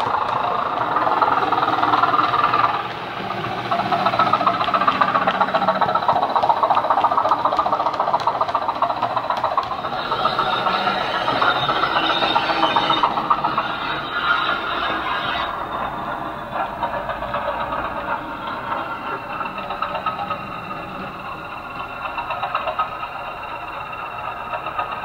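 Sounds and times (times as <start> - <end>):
diesel engine sound from small speaker: 0.0 - 25.0
model wheels rattling over track: 0.0 - 25.0.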